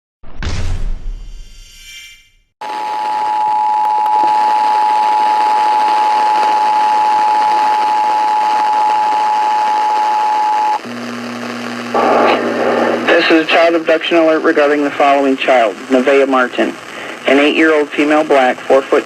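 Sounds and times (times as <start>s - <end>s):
radio hiss: 2.6s - 19.0s.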